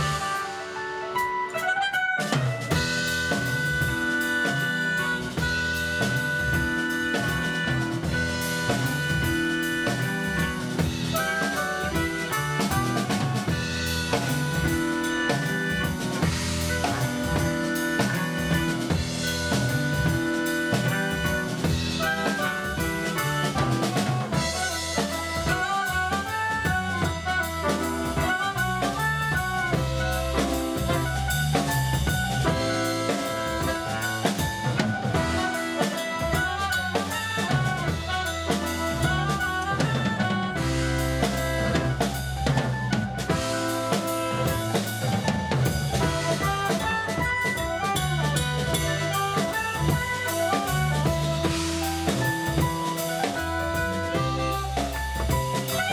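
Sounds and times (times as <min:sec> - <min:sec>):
clarinet: 0:00.0 - 0:55.9
drum kit: 0:00.0 - 0:55.9
electric bass: 0:00.0 - 0:55.9
live band playing dance tune: 0:00.0 - 0:55.9
soprano saxophone: 0:00.0 - 0:55.9.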